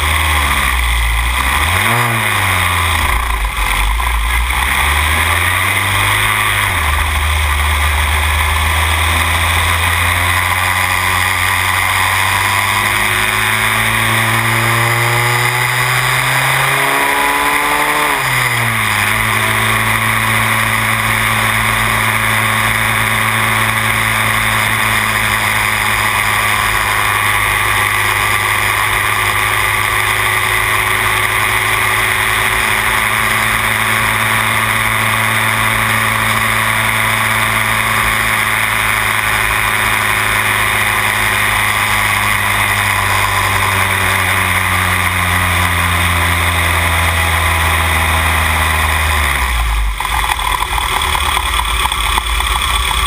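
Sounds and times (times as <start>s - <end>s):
racing car engine revving: 0.0s - 53.0s.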